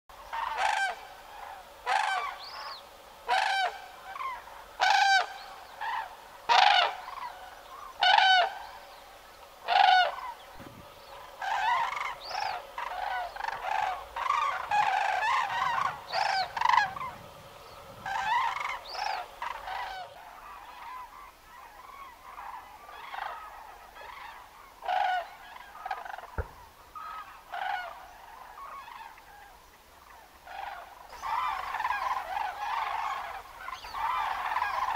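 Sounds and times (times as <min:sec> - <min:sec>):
cranes calling hoarsely: 0:00.1 - 0:34.9.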